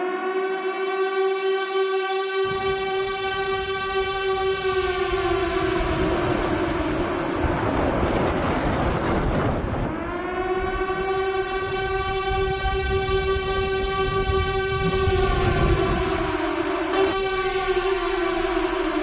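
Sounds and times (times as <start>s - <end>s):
siren wailing: 0.0s - 19.0s
low rumble: 2.5s - 17.8s.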